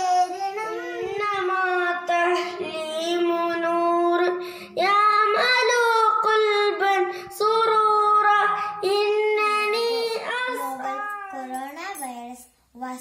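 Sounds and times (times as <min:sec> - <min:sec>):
boy singing solo: 0:00.0 - 0:11.6.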